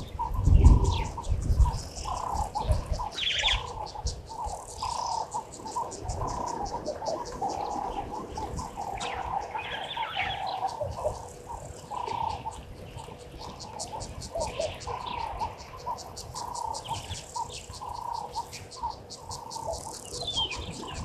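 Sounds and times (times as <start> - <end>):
birds calling: 0.0 - 21.0
high insect ticking: 0.0 - 21.0.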